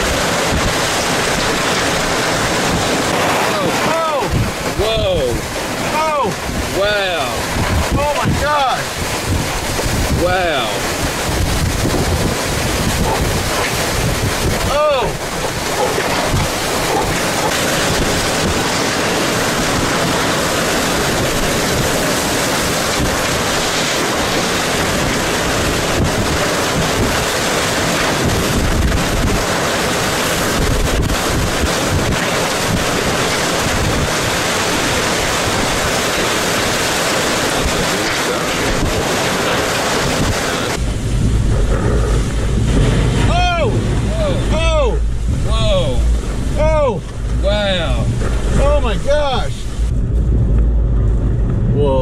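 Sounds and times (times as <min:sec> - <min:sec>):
strong wind rushing: 0:00.0 - 0:52.0
wind buffeting microphone: 0:00.0 - 0:52.0.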